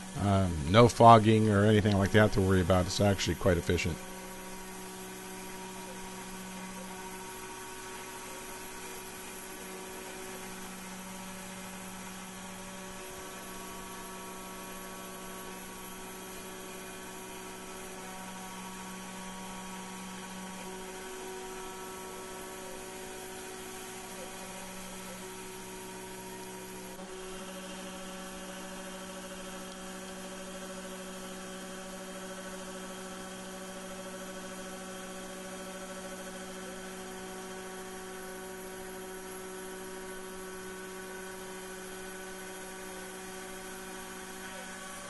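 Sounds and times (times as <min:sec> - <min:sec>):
milling machine whining: 0:00.0 - 0:45.0.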